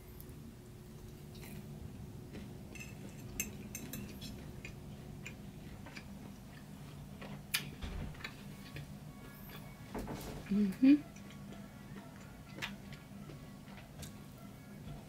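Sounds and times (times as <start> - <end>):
faint low hum: 0.0 - 15.0
chewing food: 0.8 - 9.9, 11.0 - 15.0.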